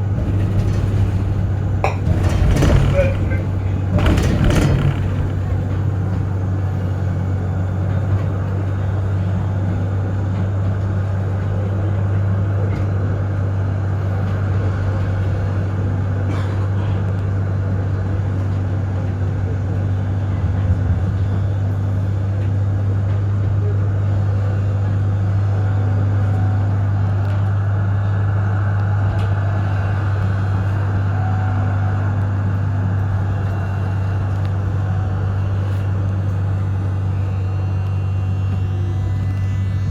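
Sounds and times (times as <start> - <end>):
tram humming and rolling: 0.0 - 39.9.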